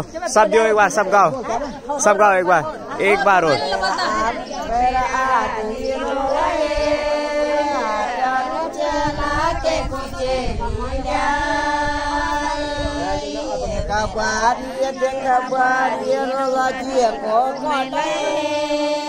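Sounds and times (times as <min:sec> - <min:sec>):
women singing in unison: 0:00.9 - 0:19.0.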